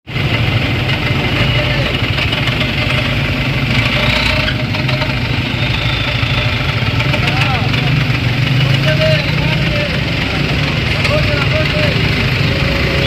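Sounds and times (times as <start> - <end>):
truck engine droning: 0.1 - 13.0.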